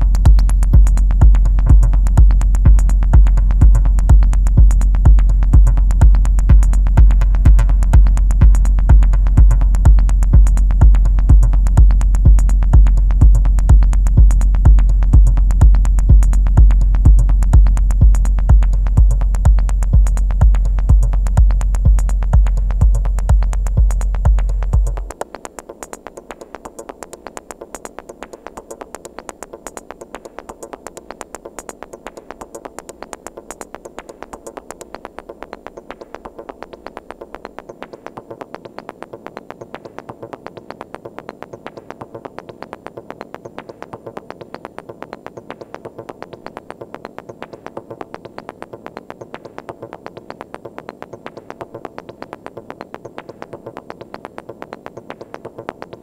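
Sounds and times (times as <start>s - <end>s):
techno loop of percussive sample hits: 0.0s - 56.0s.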